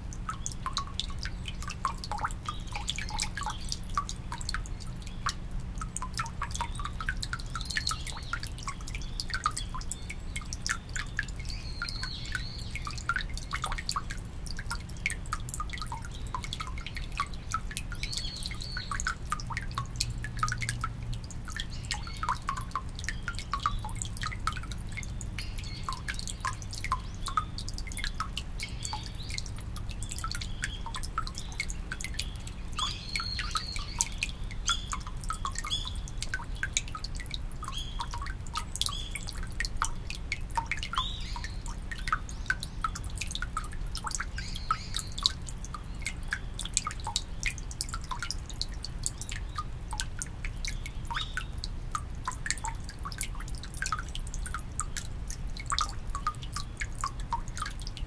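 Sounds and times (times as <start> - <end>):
water dripping into basin: 0.0 - 58.0.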